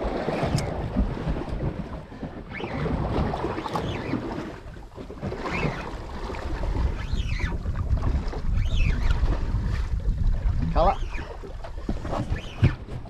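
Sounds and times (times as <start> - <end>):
water washing around boat: 0.0 - 13.0
wind buffeting microphone: 0.0 - 13.0.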